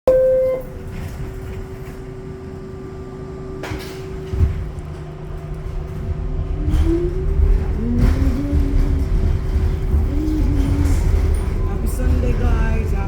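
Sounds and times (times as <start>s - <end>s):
subway car rumble: 0.1s - 13.0s.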